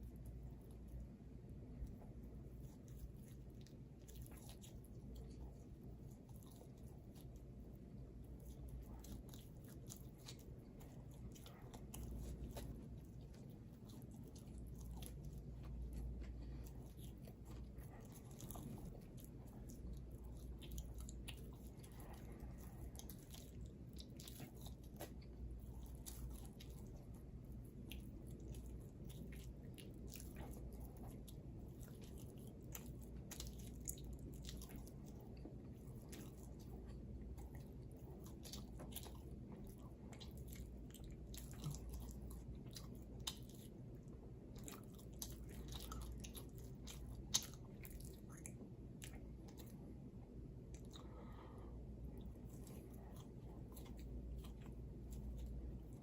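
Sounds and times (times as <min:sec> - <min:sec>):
chewing and mouth clicks: 0:00.0 - 0:56.0
steady low hum: 0:00.0 - 0:56.0.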